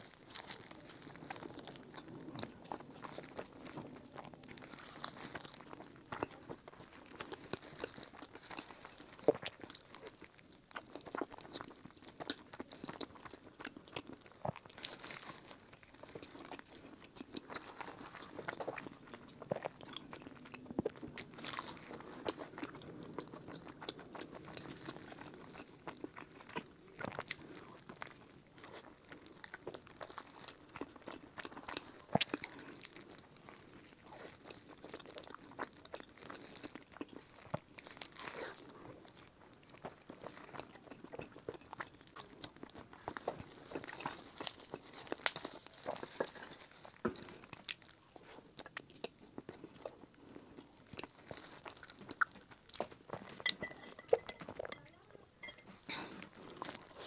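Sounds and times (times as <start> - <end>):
crunchy chewing of pastries: 0.0 - 57.0.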